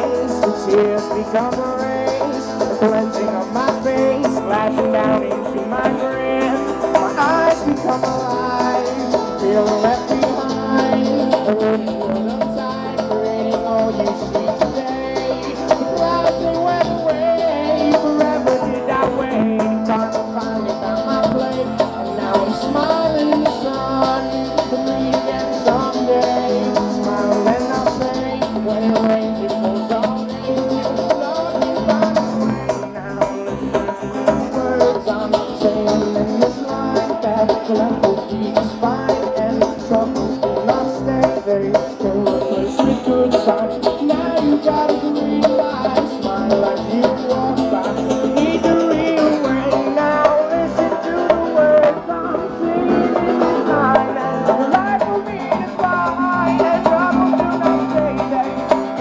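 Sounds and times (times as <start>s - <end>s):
acoustic guitar: 0.0s - 59.0s
drum kit: 0.0s - 59.0s
electric bass: 0.0s - 59.0s
hand drums: 0.0s - 59.0s.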